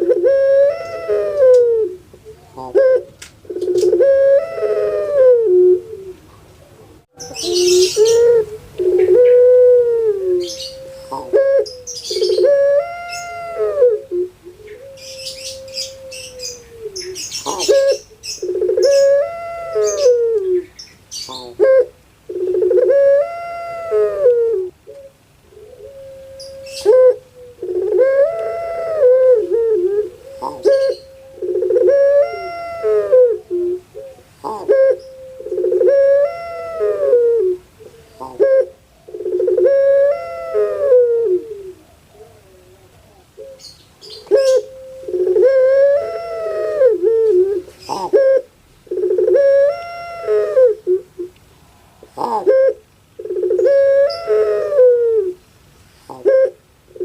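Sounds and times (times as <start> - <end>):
dove cooing: 0.0 - 51.4, 52.0 - 55.4, 56.0 - 57.0.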